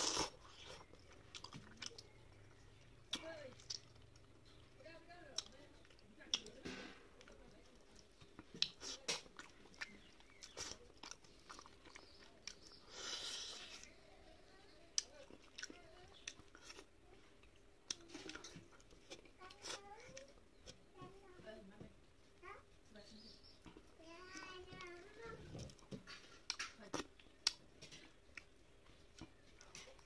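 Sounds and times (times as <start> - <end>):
chewing: 0.0 - 14.2, 14.9 - 20.8, 23.6 - 30.0.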